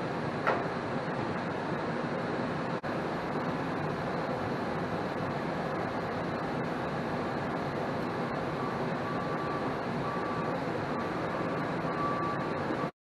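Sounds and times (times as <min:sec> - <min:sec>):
furnace blower running: 0:00.0 - 0:12.9.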